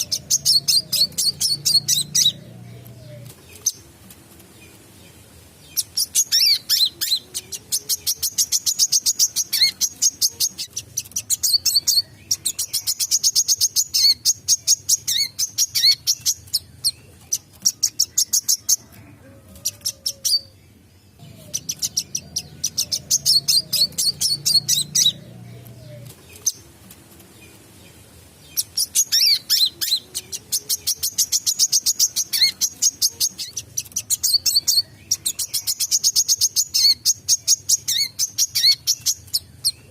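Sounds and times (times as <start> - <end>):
bird chattering song: 0.0 - 19.0, 19.6 - 26.7, 27.3 - 39.9.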